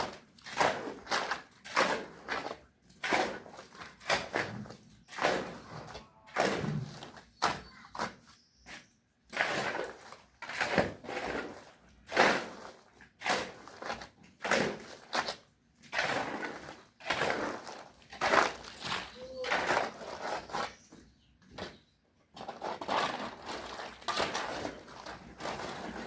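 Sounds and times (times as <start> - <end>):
construction knocks and scrapes: 0.0 - 26.0.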